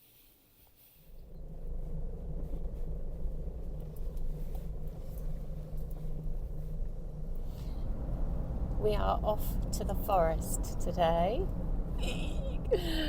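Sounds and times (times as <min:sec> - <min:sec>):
car engine and road rumble: 0:01.0 - 0:13.0.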